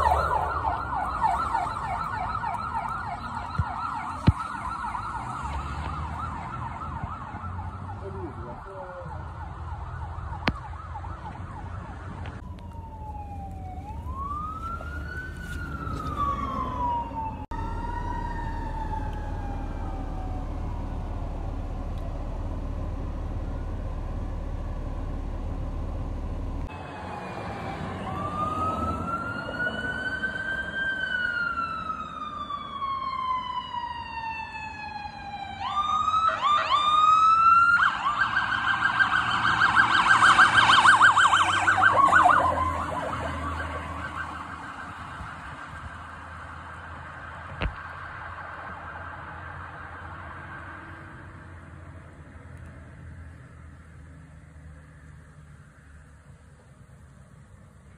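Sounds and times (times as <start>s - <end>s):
fire truck sirens wailing: 0.0s - 52.4s.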